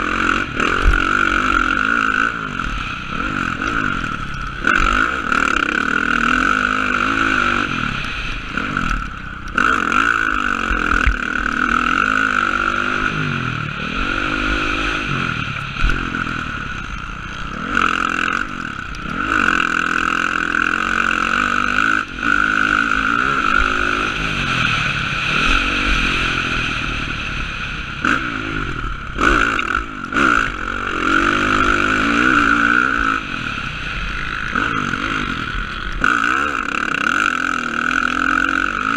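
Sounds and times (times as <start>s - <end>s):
dirt bike engine revving: 0.0s - 38.9s
rushing wind noise: 0.0s - 38.9s.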